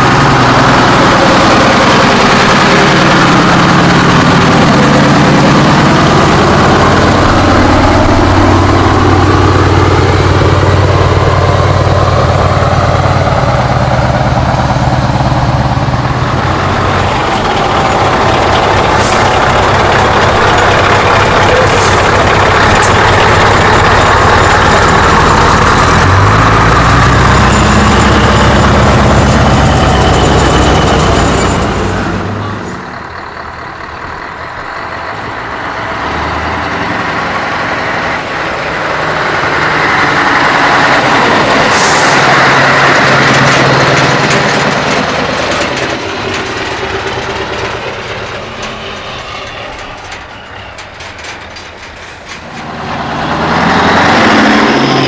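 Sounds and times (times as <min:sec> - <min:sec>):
truck diesel engines passing: 0:00.0 - 0:55.0.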